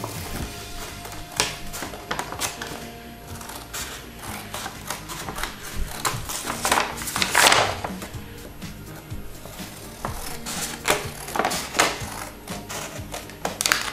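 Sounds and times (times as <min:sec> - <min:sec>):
scissors snipping paper: 0:00.0 - 0:08.1, 0:09.4 - 0:13.9
paper rustling: 0:00.0 - 0:13.9.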